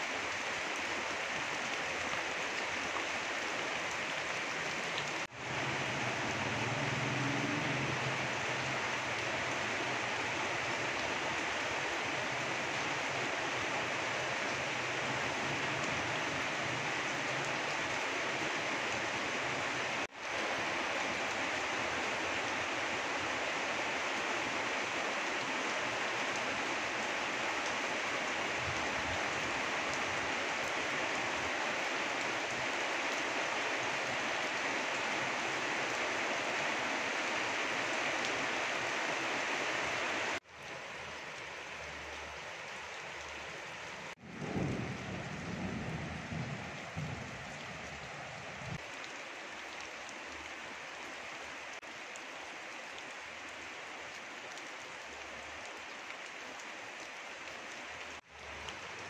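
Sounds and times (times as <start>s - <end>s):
rain on leaves and grass: 0.0s - 59.0s.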